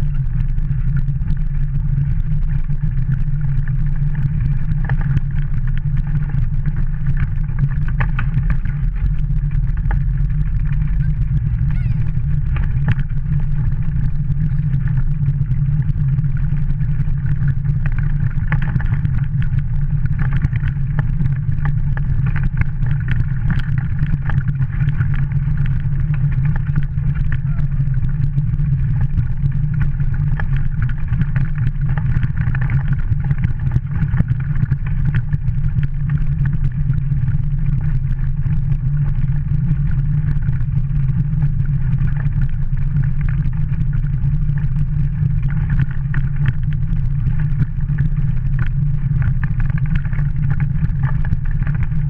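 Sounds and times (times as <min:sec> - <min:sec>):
cart wheels rumbling on gravel: 0:00.0 - 0:52.0.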